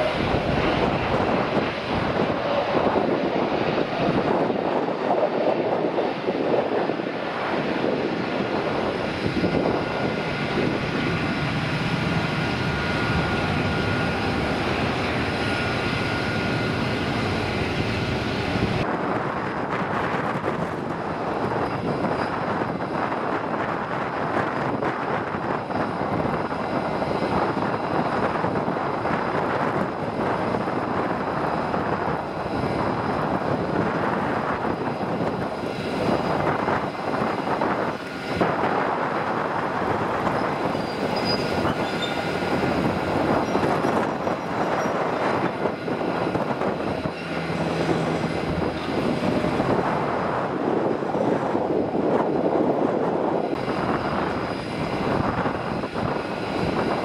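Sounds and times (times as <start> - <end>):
turboprop engines at takeoff power: 0.0 - 57.0.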